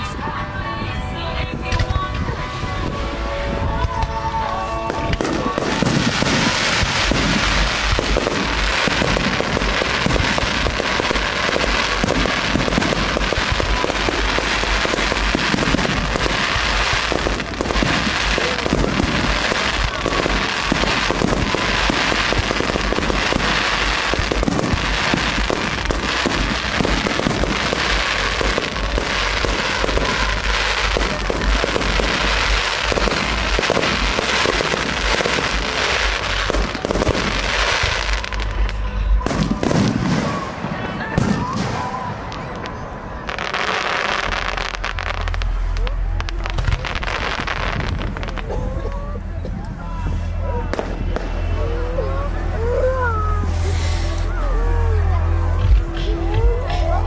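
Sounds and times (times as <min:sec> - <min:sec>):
fireworks launching and bursting: 0:01.3 - 0:57.0.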